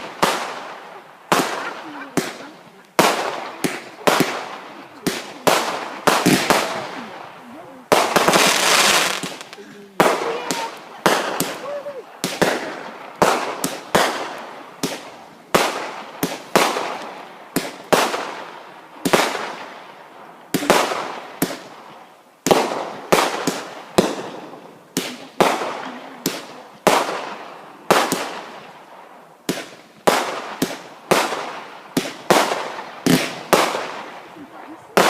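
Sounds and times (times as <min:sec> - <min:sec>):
fireworks bangs echoing: 0:00.0 - 0:35.0.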